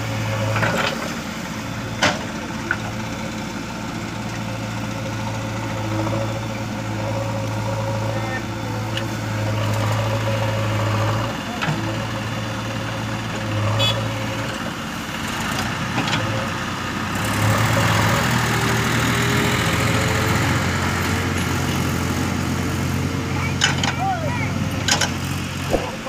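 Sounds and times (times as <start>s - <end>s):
diesel engine running: 0.0s - 26.0s
tractor engine running: 0.0s - 26.0s.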